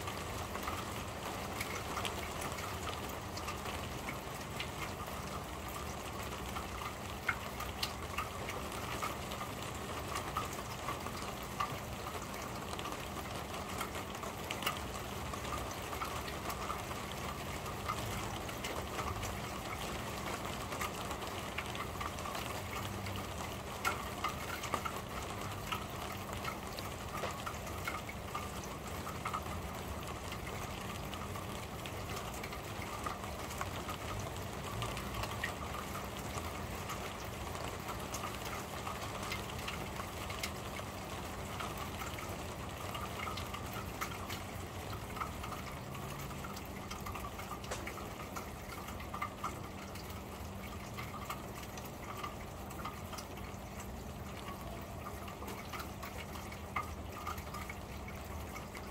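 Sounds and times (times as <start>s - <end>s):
drips ticking on metal sheeting: 0.0s - 58.9s
rain on a corrugated roof: 0.0s - 58.9s.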